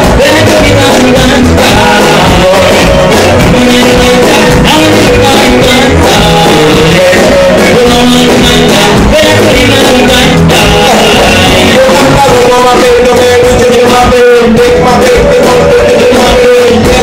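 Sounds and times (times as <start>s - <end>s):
electric guitar: 0.0s - 17.0s
live band music: 0.0s - 17.0s
man singing into microphone: 0.0s - 17.0s.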